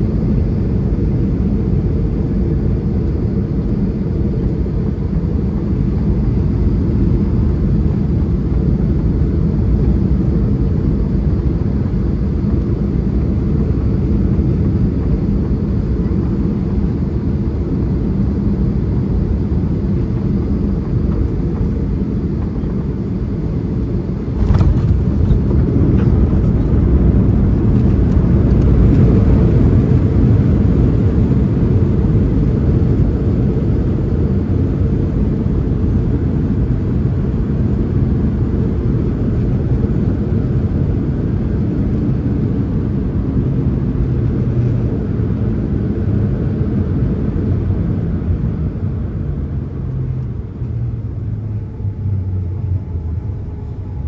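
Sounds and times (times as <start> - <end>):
airplane cabin engine roar: 0.0 - 54.0.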